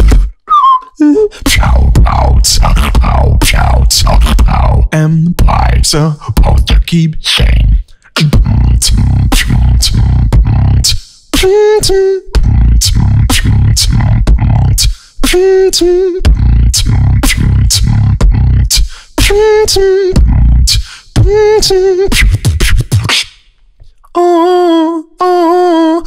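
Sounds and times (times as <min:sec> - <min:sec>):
beatboxing: 0:00.0 - 0:24.6.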